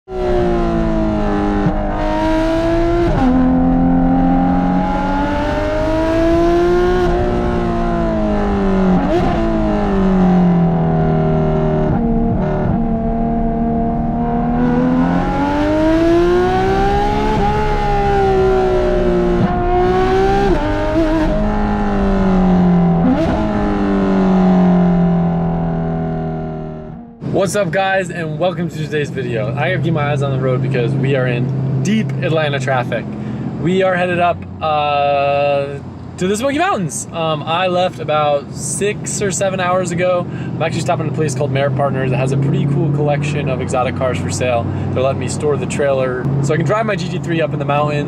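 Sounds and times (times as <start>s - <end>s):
car engine revving while driving: 0.1s - 27.2s, 29.5s - 36.2s, 38.8s - 48.0s.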